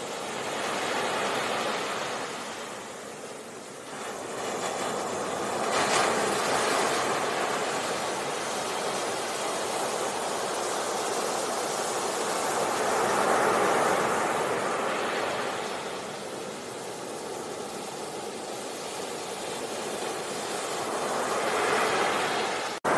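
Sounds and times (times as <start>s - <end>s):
waves breaking on beach: 0.0s - 22.9s.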